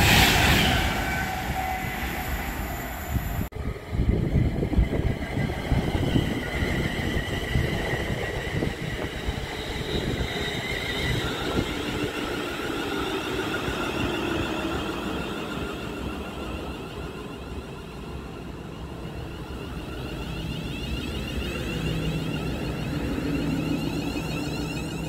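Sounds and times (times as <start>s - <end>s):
high train whine: 0.0s - 25.0s
train wheels rumbling on rails: 0.0s - 25.0s.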